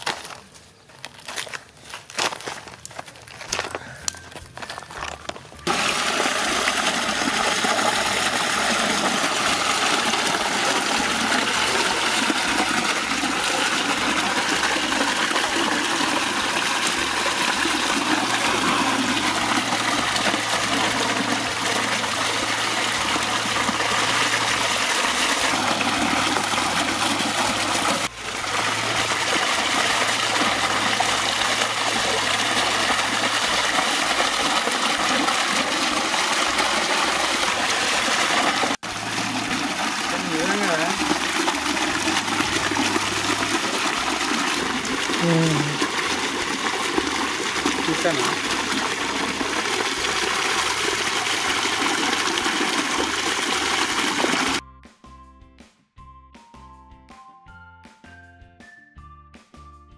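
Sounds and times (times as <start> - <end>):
water gushing and splashing: 4.6 - 54.6
meat rinsed by hand in water: 5.7 - 54.6.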